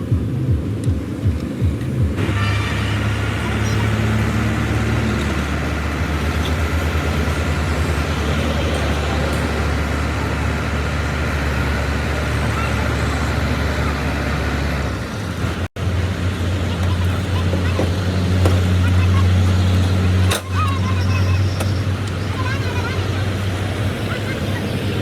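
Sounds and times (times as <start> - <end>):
road traffic noise: 0.0 - 25.0
vehicle engine humming: 0.0 - 25.0.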